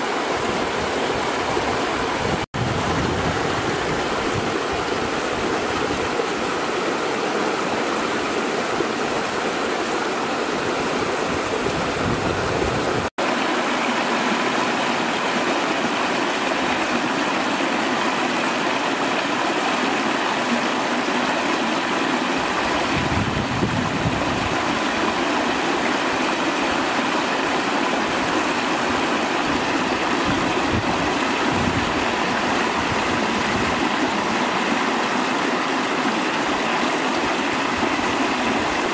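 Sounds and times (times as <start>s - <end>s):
stream splashing over stones: 0.0s - 38.9s.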